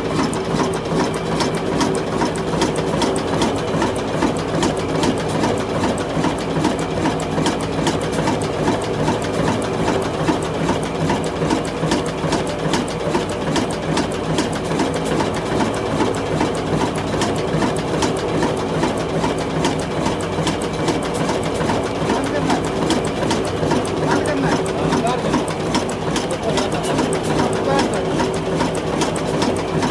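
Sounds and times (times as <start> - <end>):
old diesel engine clattering: 0.0 - 29.9.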